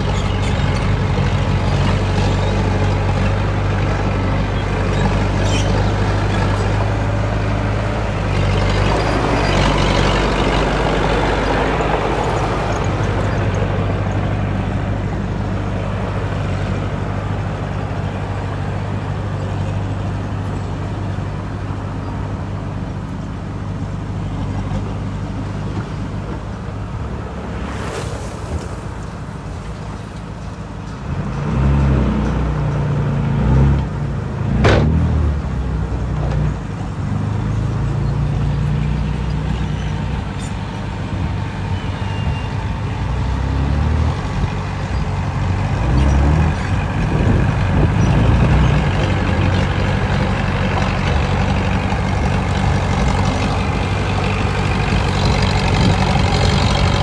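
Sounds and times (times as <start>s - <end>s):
diesel machinery engine running: 0.0s - 34.4s, 35.8s - 57.0s.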